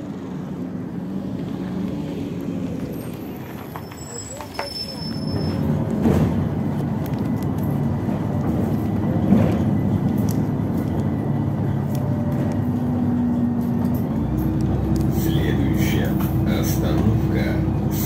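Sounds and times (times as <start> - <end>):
bus engine hum from inside: 0.0 - 18.0.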